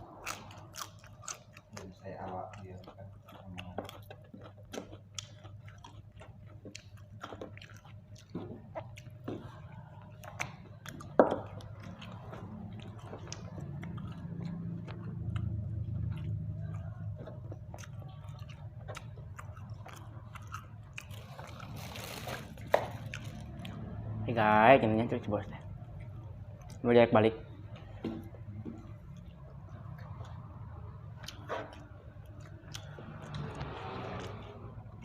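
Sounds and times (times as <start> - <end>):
wet chewing mouth clicks: 0.0 - 24.2, 27.7 - 35.0
low steady hum: 0.0 - 35.0.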